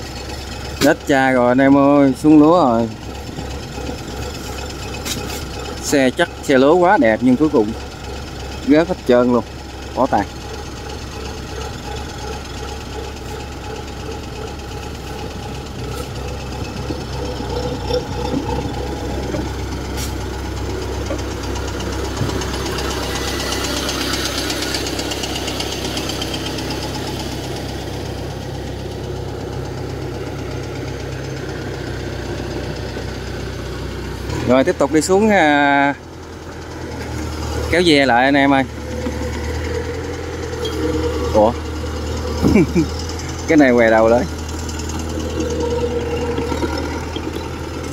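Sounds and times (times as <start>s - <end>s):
combine harvester engine running: 0.0s - 47.9s.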